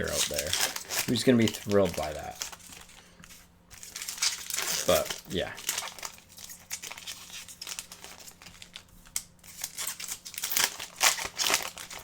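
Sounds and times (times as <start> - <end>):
cards crinkling and rustling: 0.0 - 12.0.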